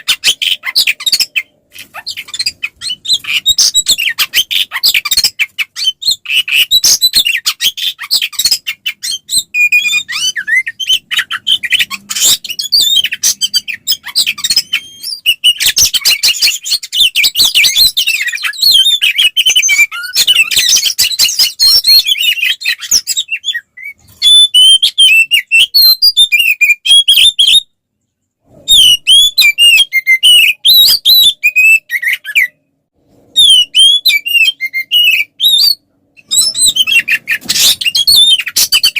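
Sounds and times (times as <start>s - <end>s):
bird chattering and whistling: 0.0s - 27.6s, 33.4s - 38.9s.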